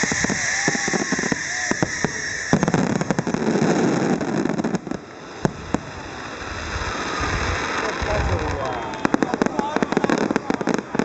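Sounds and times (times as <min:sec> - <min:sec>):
fireworks bangs: 0:00.0 - 0:11.0
fireworks crackling: 0:00.0 - 0:11.0
fireworks fizzing hiss: 0:00.0 - 0:11.0.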